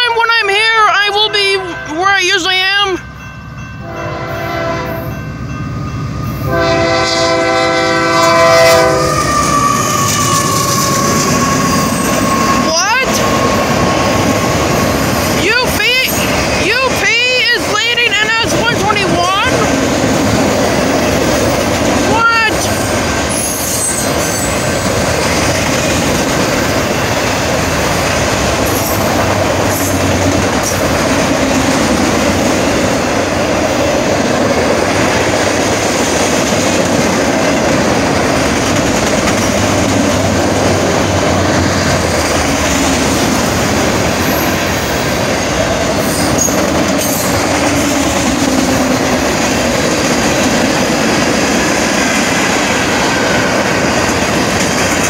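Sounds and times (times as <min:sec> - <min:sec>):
steel train wheels rumbling on rails: 0:00.0 - 0:55.0.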